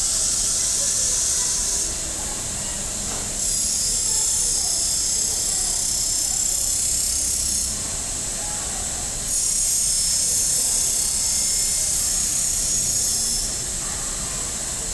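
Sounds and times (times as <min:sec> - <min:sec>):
grinding machine hissing on steel: 0:00.0 - 0:14.9.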